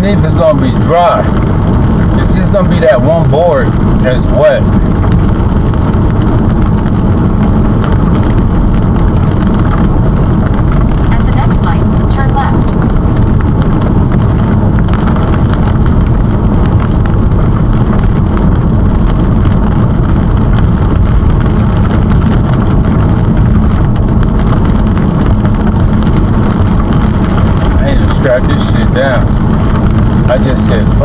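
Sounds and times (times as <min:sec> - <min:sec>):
car road and wind noise: 0:00.0 - 0:31.0
rain: 0:00.0 - 0:31.0.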